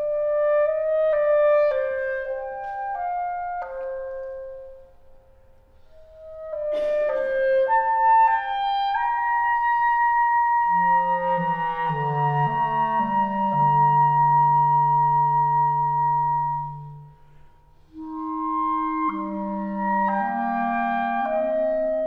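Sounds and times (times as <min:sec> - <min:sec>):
clarinets playing slow melody: 0:00.0 - 0:22.0.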